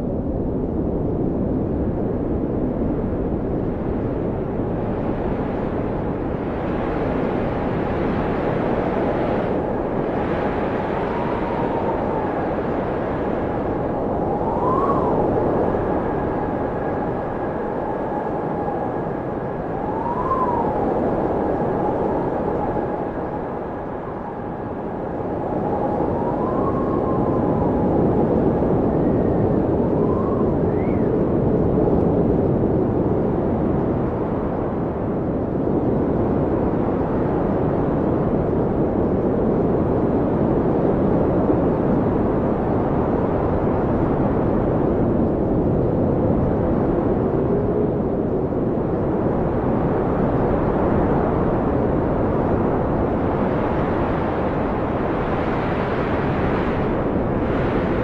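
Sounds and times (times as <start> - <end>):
blizzard wind blowing hard: 0.0 - 58.0
faint howling wind whistles: 0.0 - 58.0.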